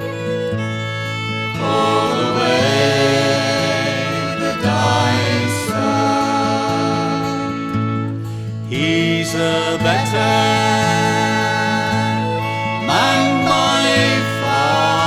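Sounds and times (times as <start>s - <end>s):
guitars playing: 0.0s - 15.0s
voices singing: 0.1s - 8.1s, 8.7s - 15.0s.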